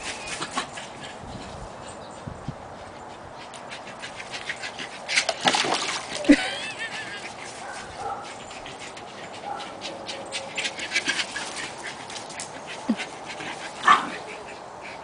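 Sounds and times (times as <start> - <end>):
dog panting: 0.0 - 5.4, 6.8 - 15.0.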